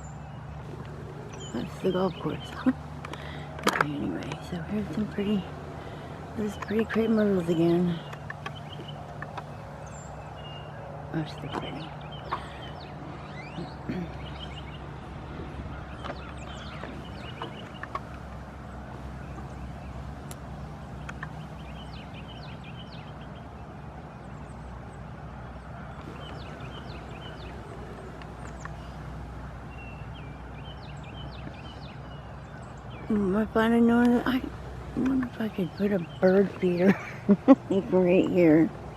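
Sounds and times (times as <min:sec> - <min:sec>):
songbirds chirping and trilling: 0:00.0 - 0:38.9
steady low hum: 0:00.0 - 0:38.9.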